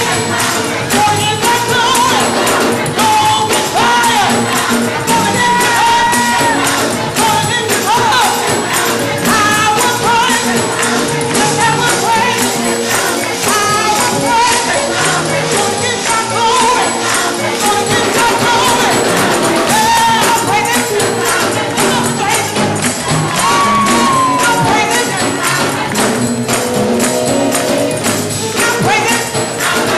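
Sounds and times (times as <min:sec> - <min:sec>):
band playing: 0:00.0 - 0:29.9
gospel choir and lead singer: 0:00.0 - 0:29.9
tambourine shaken: 0:00.0 - 0:29.9.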